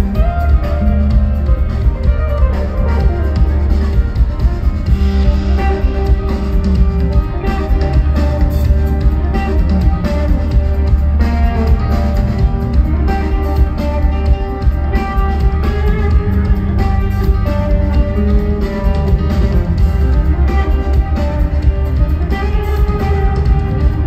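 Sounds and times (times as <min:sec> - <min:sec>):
electric guitar lines: 0:00.0 - 0:24.0
heavy bass: 0:00.0 - 0:24.0
steady drum beat: 0:00.0 - 0:24.0.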